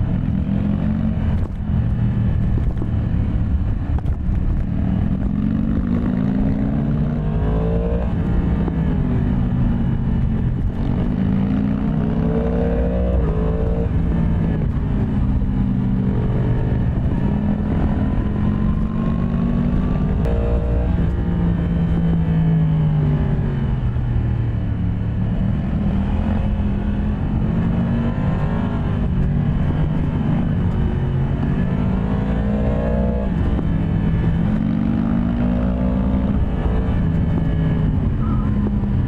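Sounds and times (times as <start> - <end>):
motorcycle engine accelerating: 0.0 - 39.0.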